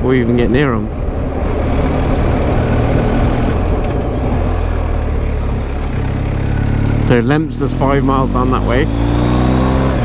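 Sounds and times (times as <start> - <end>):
motorcycle engine cruising: 0.0 - 10.0
wind and road rush: 0.0 - 10.0.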